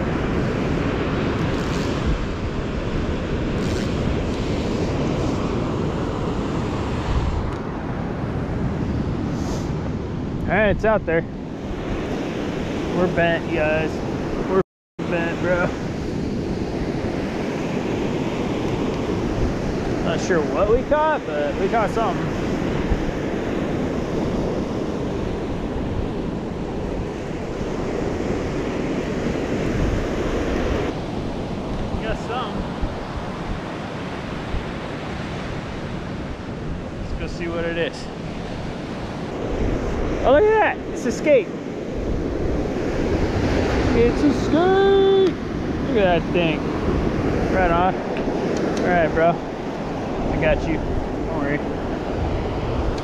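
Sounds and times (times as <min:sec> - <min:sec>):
ocean surf breaking: 0:00.0 - 0:53.0
wind buffeting microphone: 0:00.0 - 0:53.0.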